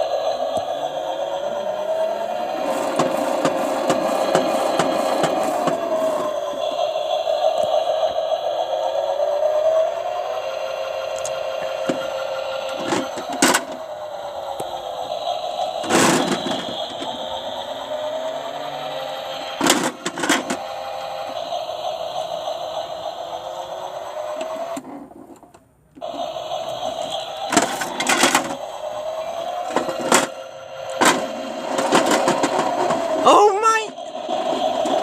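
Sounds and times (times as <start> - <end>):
small electric motor whining: 0.0 - 24.9, 26.0 - 35.0.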